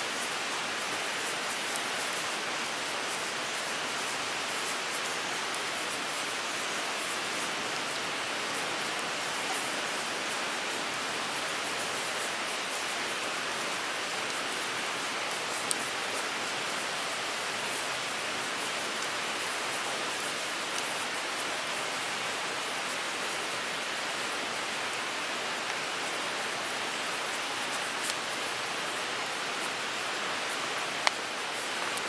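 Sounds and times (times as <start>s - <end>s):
wood fire hissing and crackling: 0.0s - 32.0s.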